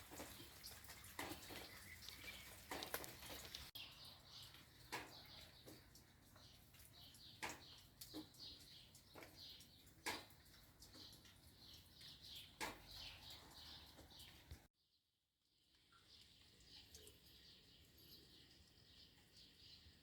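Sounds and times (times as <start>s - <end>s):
raindrops dripping on leaves: 0.0s - 14.7s, 15.7s - 19.6s
small bird chirping: 0.1s - 14.7s, 15.9s - 20.0s.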